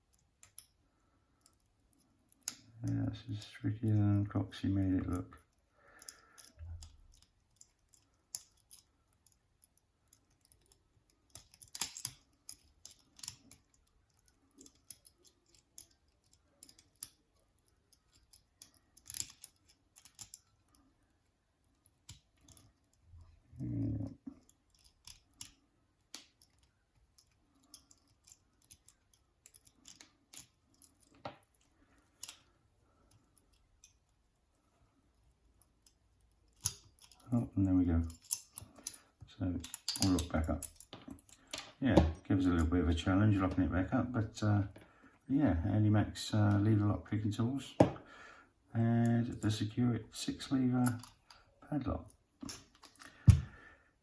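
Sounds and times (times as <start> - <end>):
lock picking clicks and scrapes: 0.0 - 42.7, 50.3 - 53.6.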